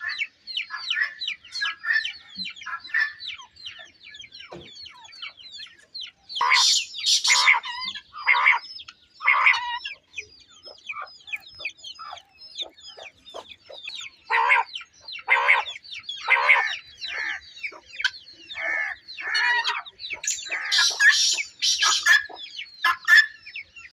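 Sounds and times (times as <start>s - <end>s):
harsh quail calls: 0.0s - 23.9s
quail high chirps: 0.0s - 23.9s.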